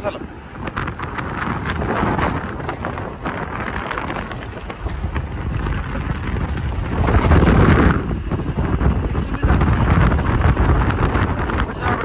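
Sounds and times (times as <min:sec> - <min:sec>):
engine and tyre rumble: 0:00.0 - 0:12.0
vehicle body knocking and rattling: 0:00.0 - 0:12.0.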